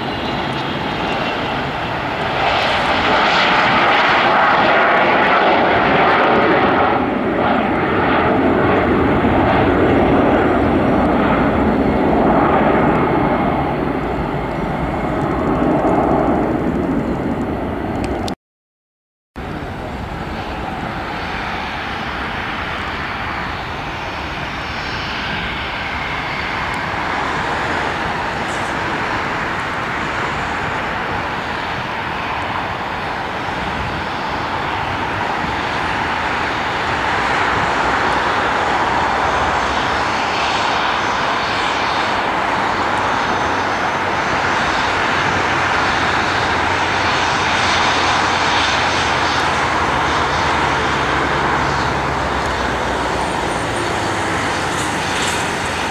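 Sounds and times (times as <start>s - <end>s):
jet engines running: 0.0s - 18.4s, 19.4s - 55.9s.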